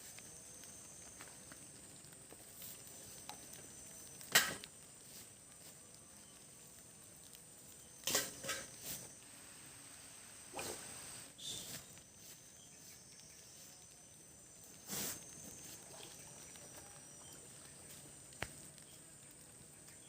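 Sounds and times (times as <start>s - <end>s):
forest insects droning: 0.0s - 20.0s.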